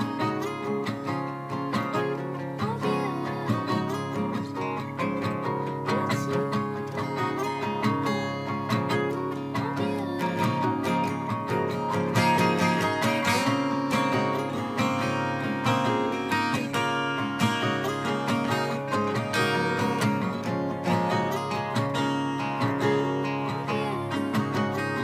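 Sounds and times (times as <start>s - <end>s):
acoustic guitars strummed and picked: 0.0s - 25.0s.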